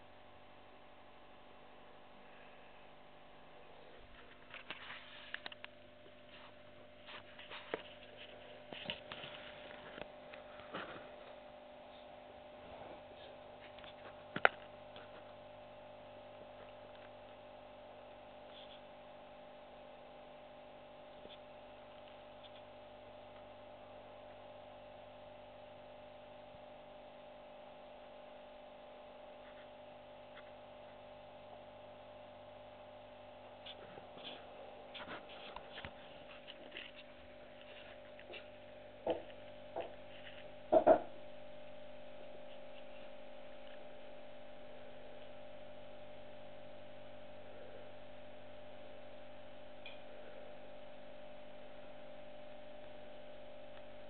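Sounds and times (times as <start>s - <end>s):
steady electrical hum: 0.0s - 54.0s.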